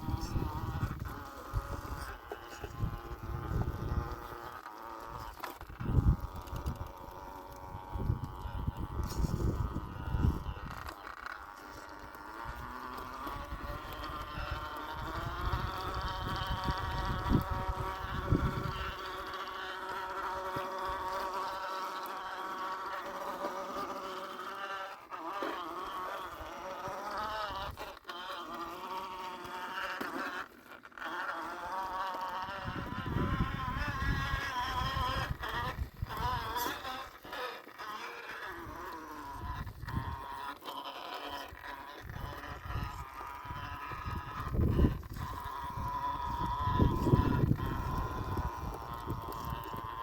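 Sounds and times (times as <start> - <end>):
electric motor whining: 0.0 - 50.0.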